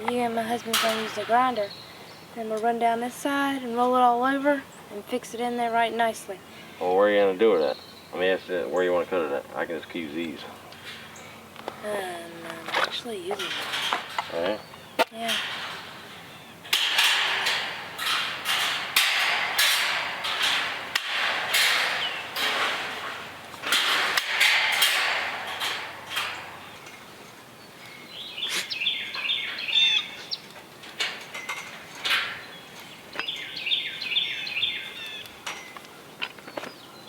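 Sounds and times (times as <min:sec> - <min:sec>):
songbird chirping: 0:00.0 - 0:37.0.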